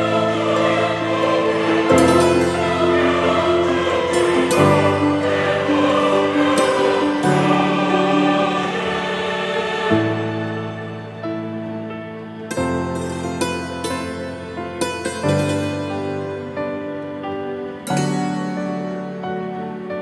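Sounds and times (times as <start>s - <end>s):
background music with choir-like voices: 0.0s - 20.0s.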